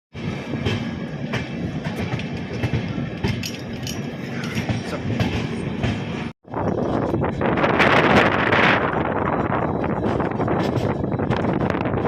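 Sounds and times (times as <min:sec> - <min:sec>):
train rumbling on rails: 0:00.1 - 0:12.0.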